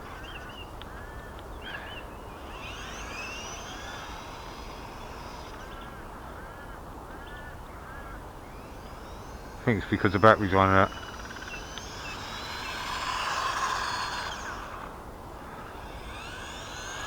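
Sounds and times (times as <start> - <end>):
bird chirping: 0.0 - 14.9
electric motor whining: 0.0 - 17.0
steady outdoor noise: 0.0 - 17.0.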